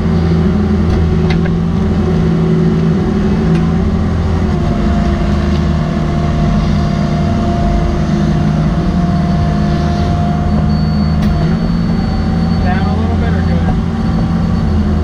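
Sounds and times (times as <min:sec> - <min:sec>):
excavator diesel engine and hydraulics: 0:00.0 - 0:15.0
steady whine: 0:00.0 - 0:15.0.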